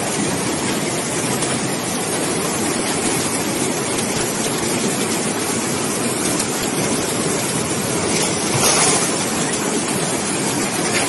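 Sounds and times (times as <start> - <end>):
floodwater rushing down a street: 0.0 - 11.0.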